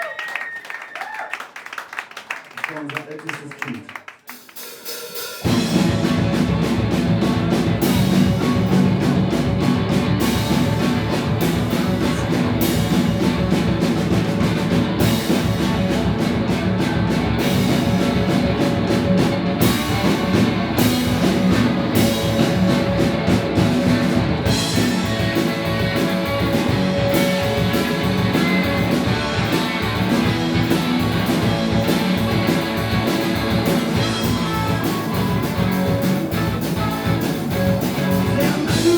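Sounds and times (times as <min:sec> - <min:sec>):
drums: 0:00.0 - 0:38.9
live rock band playing: 0:04.4 - 0:38.9
electric guitar: 0:05.4 - 0:38.9.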